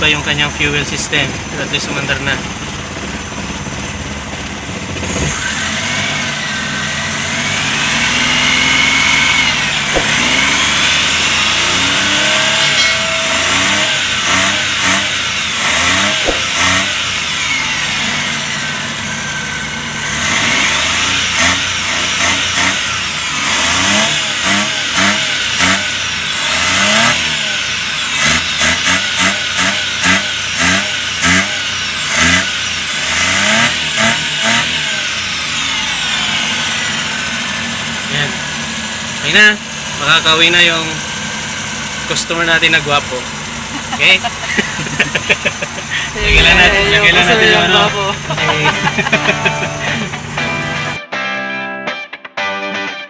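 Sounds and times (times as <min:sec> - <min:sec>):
engine revving: 0:00.0 - 0:51.0.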